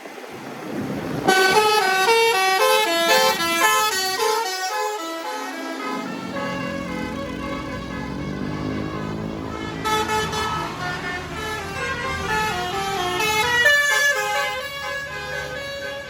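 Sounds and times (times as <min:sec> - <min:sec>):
bus engine running: 0:00.1 - 0:16.0
musical bus horn: 0:01.2 - 0:16.0.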